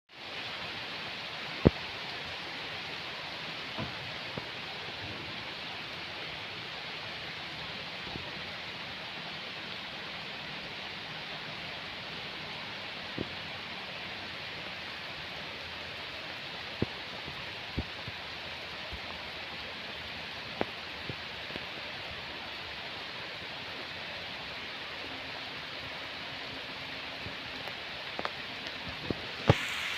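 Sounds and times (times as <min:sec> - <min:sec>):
rain falling: 0:00.1 - 0:29.9.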